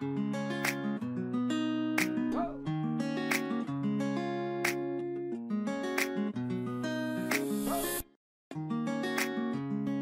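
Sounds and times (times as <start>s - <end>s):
acoustic guitar background music: 0.0s - 10.0s.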